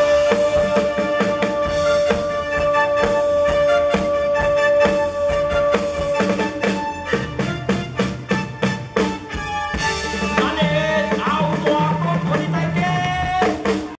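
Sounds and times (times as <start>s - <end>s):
drum kit beat: 0.0s - 14.0s
live band music: 0.0s - 14.0s.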